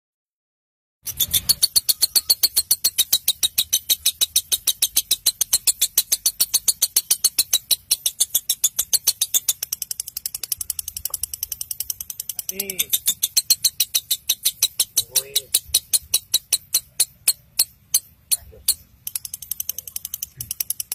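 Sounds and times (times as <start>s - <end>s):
rapid bird clicking chatter: 1.1s - 20.9s.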